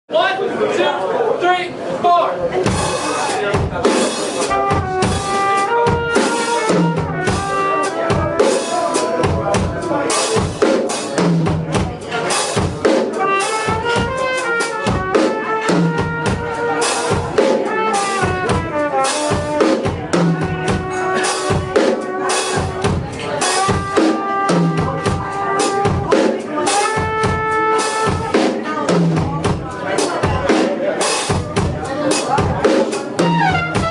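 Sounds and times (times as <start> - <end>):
drum kit beat: 2.5 - 33.9
horn melody: 2.8 - 30.1, 33.2 - 33.9.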